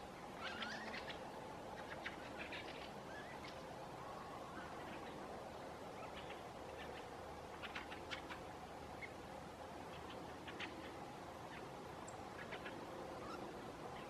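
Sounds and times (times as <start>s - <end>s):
birds chattering calls: 0.2s - 14.0s.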